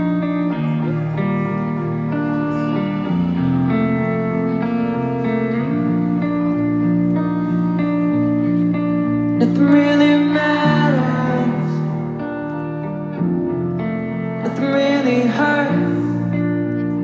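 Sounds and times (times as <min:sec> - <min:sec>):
live band guitar chords: 0:00.0 - 0:17.0.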